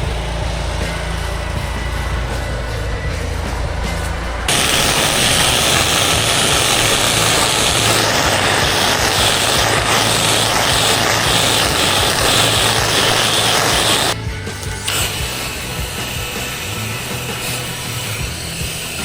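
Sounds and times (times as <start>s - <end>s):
engine hum: 0.0s - 19.0s
pressure washer water jet hissing: 3.8s - 19.0s.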